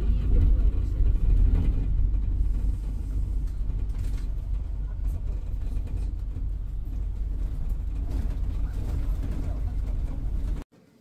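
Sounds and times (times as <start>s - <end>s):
bus engine and road noise: 0.0s - 10.7s.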